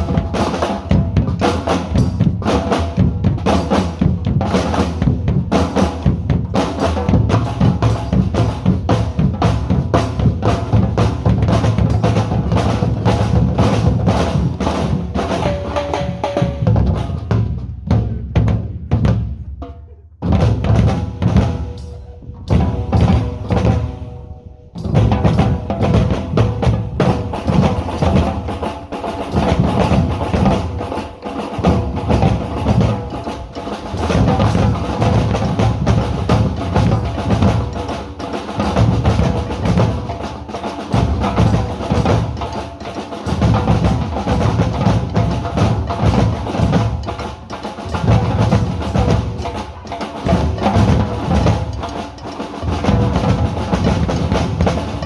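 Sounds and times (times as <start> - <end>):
group drumming: 0.0 - 55.0.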